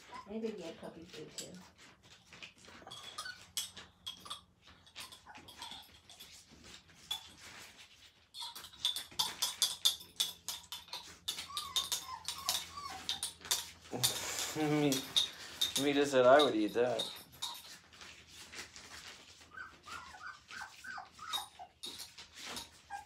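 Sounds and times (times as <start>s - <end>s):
paws scratching on blankets: 0.0s - 23.0s
puppies squeaking and whimpering: 0.0s - 23.0s.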